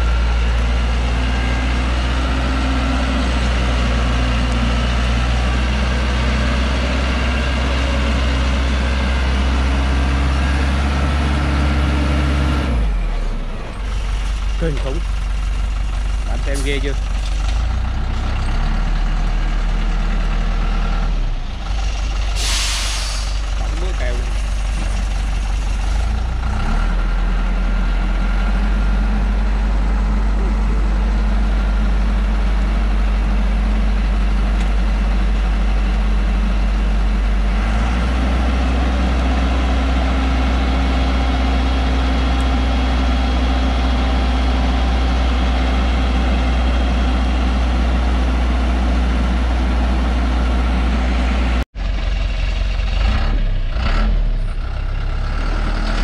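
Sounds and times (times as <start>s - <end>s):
diesel truck engine running hard: 0.0s - 56.0s.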